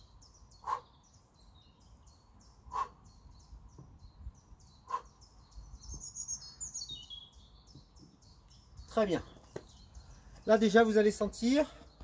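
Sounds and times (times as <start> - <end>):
small birds chirping and singing: 0.0 - 12.0.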